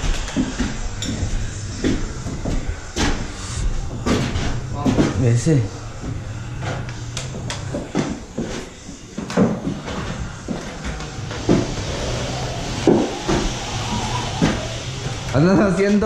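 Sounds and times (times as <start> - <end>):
low hum: 0.0 - 15.8
scraping hiss: 0.0 - 16.0.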